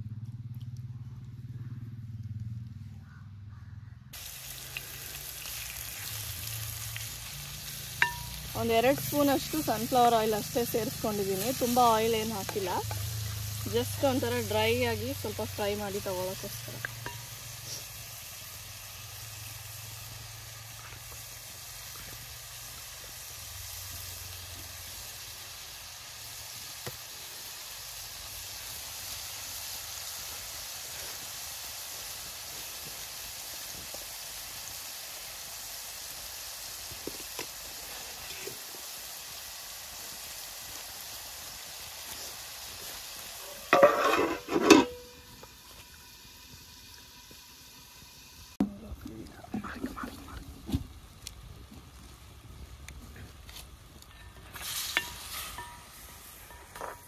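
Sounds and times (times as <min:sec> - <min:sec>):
prawns sizzling in oil: 0:04.1 - 0:57.0.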